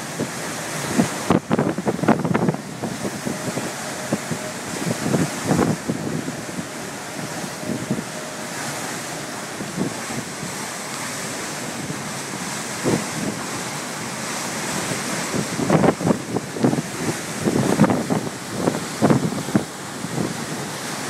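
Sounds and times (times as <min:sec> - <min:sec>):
wind blowing: 0:00.0 - 0:21.0
wind buffeting microphone: 0:00.0 - 0:21.0.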